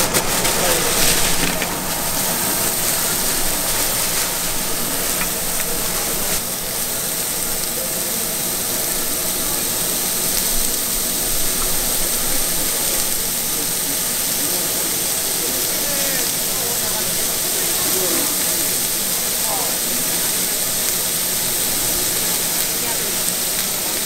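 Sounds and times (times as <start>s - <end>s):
food sizzling on griddle: 0.0s - 24.0s.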